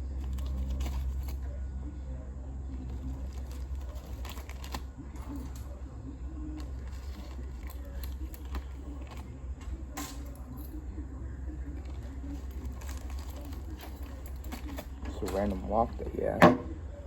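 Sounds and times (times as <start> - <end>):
tools clicking and rattling: 0.1 - 1.5, 2.7 - 5.8, 6.5 - 10.8, 11.7 - 16.7.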